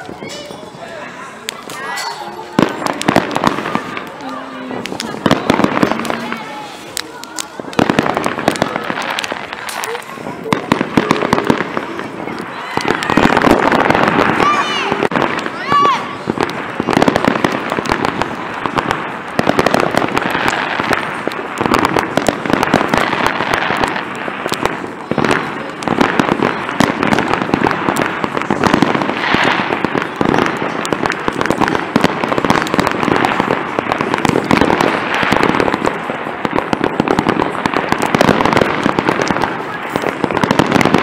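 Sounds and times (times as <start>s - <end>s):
fireworks crackling and popping: 0.0s - 41.0s.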